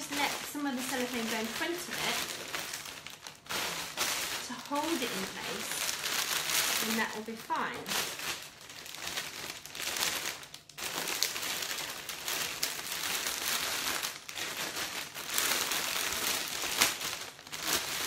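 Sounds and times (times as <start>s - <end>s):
cellophane crinkling: 0.0s - 18.0s.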